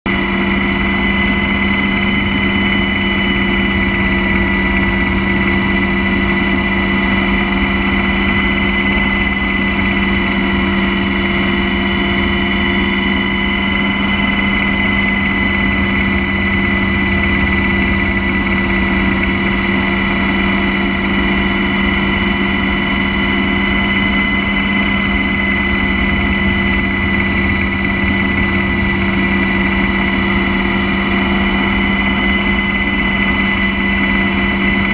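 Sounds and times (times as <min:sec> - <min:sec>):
helicopter engine and rotor drone: 0:00.0 - 0:34.9.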